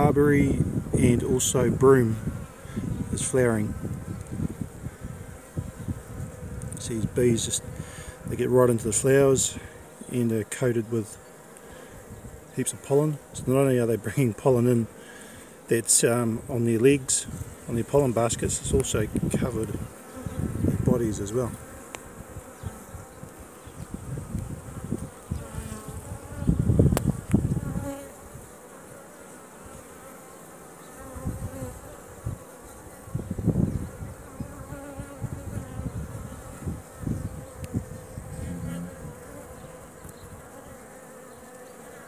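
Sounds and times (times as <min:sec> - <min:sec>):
bees humming: 0:00.0 - 0:42.0.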